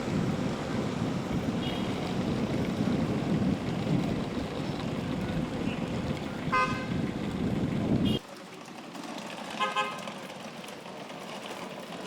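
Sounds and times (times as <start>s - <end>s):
traffic rumble: 0.0s - 12.0s
wind: 0.0s - 12.0s.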